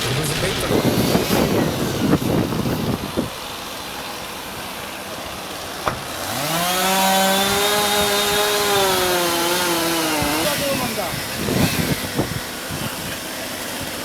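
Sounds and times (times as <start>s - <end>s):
chainsaw revving: 0.0s - 3.7s, 5.2s - 14.0s.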